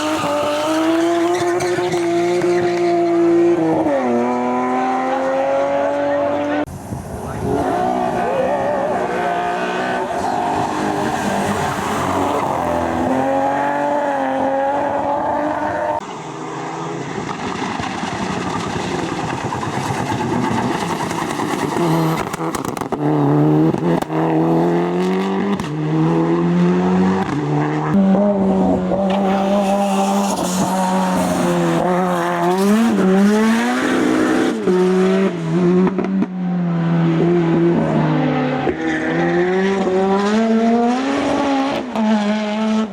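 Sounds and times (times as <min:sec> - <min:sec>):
race car engines revving: 0:00.0 - 0:42.9.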